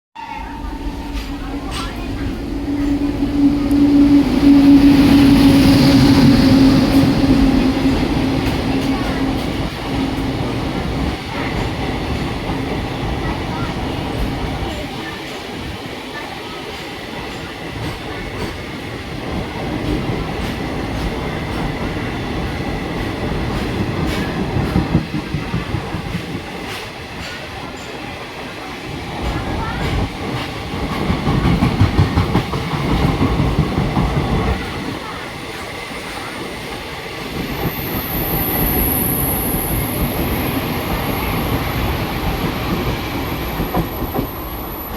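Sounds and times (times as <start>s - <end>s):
train rumbling: 0.2s - 44.9s.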